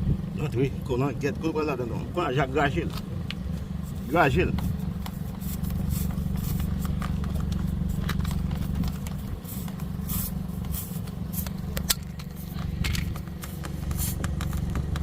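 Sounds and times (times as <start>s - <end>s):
steady low hum: 0.0s - 15.0s
metal and rubber scrapes and clicks: 2.8s - 15.0s.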